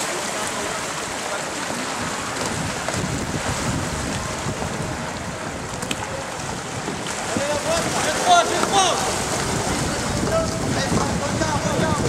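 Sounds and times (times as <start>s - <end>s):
water sloshing from paddling: 0.0s - 12.0s
wind buffeting microphone: 1.7s - 12.0s.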